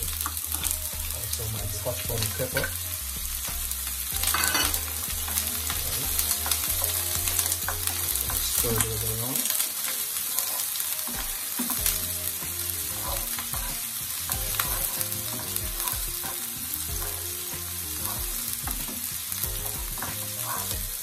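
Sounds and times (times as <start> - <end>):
onions sizzling in hot oil: 0.0 - 21.0
wooden spoon scraping a pan: 0.0 - 21.0.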